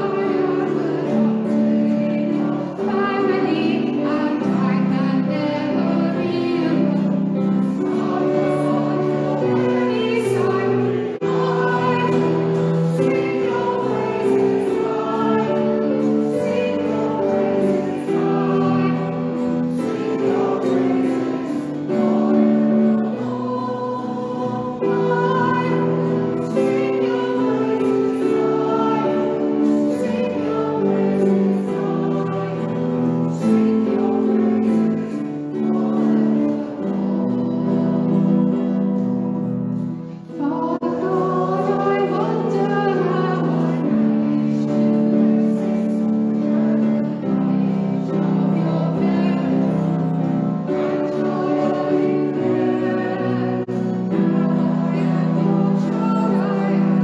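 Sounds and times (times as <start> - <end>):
acoustic guitar strumming: 0.0 - 57.0
congregation singing: 0.0 - 57.0.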